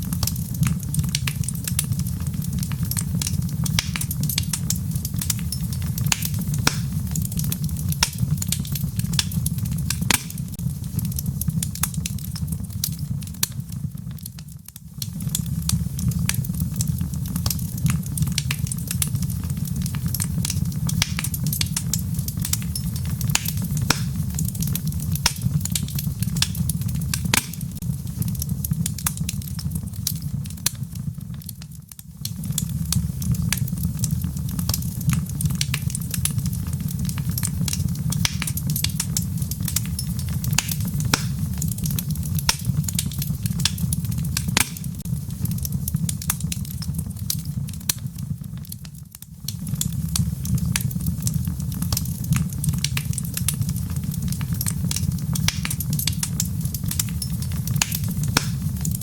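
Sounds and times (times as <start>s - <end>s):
rain: 0.0s - 59.0s
wood fire crackling: 0.0s - 59.0s.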